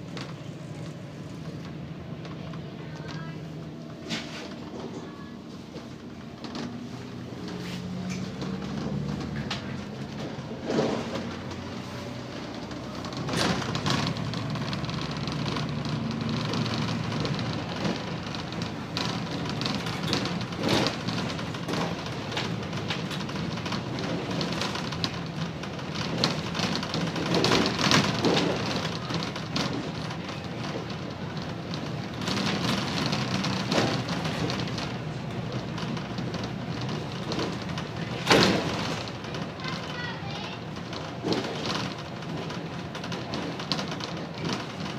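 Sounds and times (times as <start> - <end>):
bus diesel engine droning: 0.0 - 44.9.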